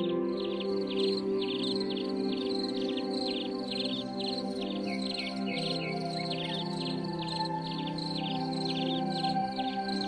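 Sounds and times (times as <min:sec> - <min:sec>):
calm ambient music chords: 0:00.0 - 0:10.0.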